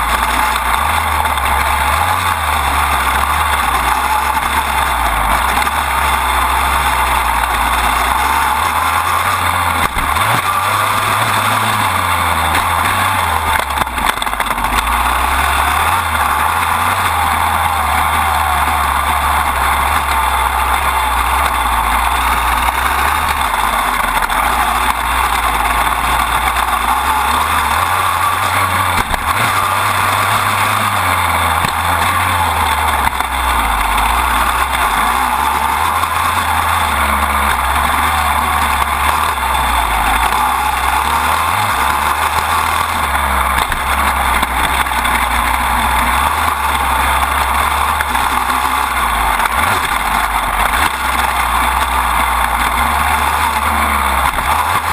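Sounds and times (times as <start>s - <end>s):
dirt bike engine running: 0.0s - 54.9s
drivetrain noise: 0.0s - 54.9s.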